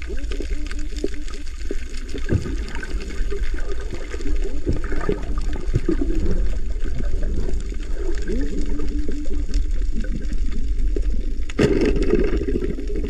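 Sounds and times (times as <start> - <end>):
crackling and bubbling: 0.0 - 13.0
deep rushing of water underwater: 0.0 - 13.0.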